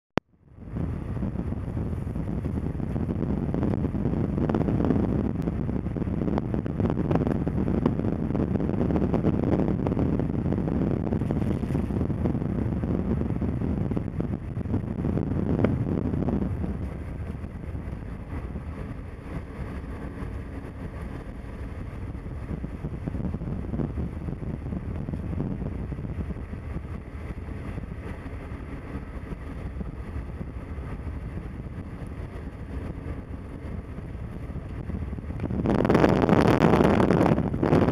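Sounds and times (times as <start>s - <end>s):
car engine and tyre rumble: 0.2s - 37.9s.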